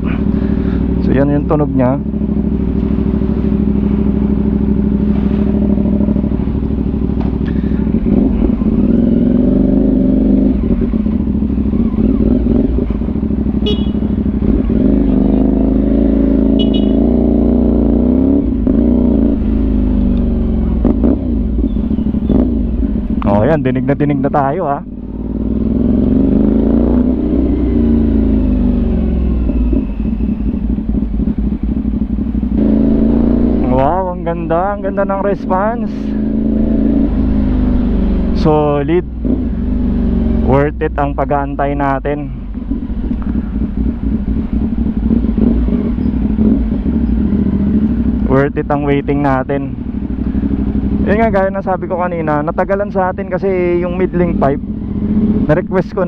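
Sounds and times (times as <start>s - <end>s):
exhaust crackle: 0.0s - 56.0s
motorcycle engine running: 0.0s - 56.0s.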